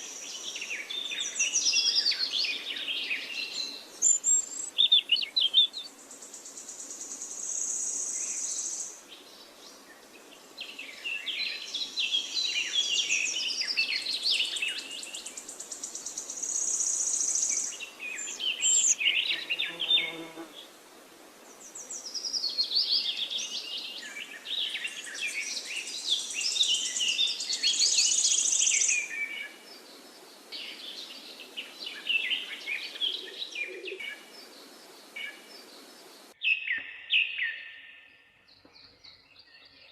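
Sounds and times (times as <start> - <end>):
songbirds singing: 0.0 - 20.7, 21.4 - 39.9.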